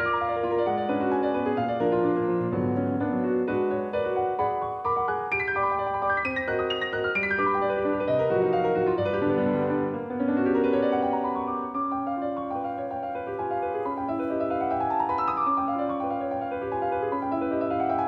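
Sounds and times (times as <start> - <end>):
solo piano arpeggios: 0.0 - 18.0.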